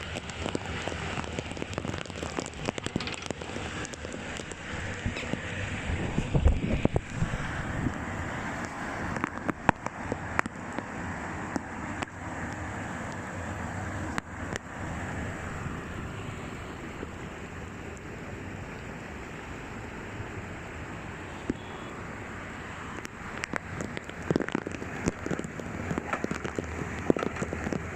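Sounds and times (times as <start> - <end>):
floodwater rushing: 0.0 - 27.9.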